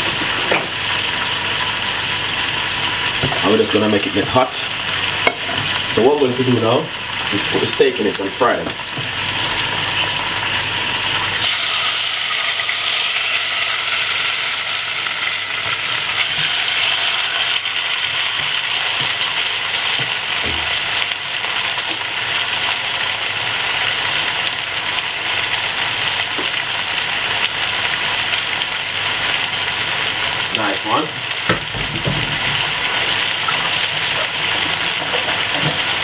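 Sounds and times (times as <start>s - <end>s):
steak sizzling in hot oil: 0.0s - 36.0s.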